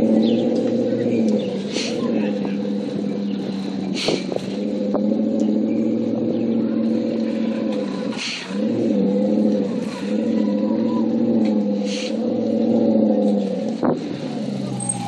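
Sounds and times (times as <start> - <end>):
car exhaust running loud: 0.0 - 15.0.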